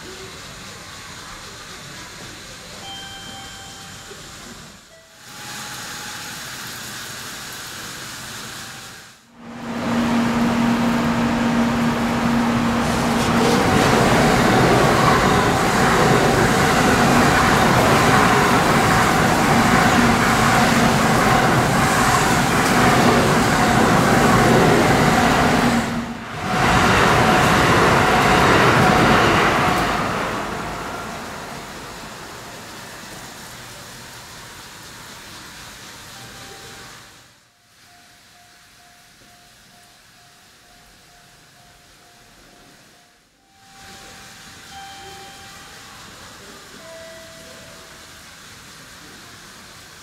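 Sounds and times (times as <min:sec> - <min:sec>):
train passing: 0:00.0 - 0:50.0.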